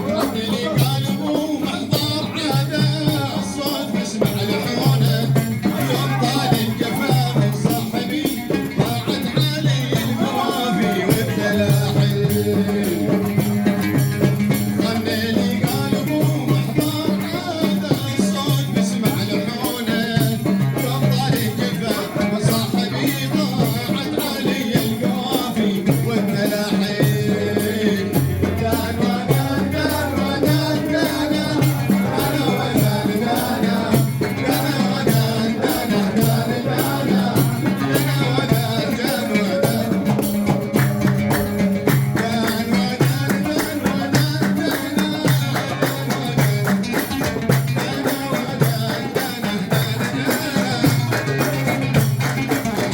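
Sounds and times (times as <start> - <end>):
hand percussion: 0.0 - 52.9.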